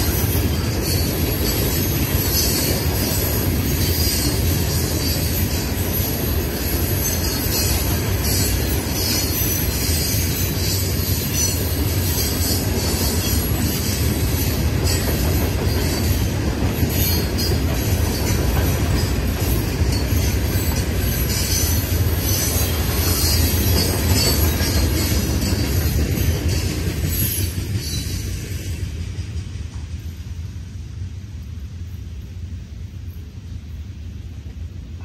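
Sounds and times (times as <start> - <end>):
freight wheels rumbling on rail: 0.0 - 35.0.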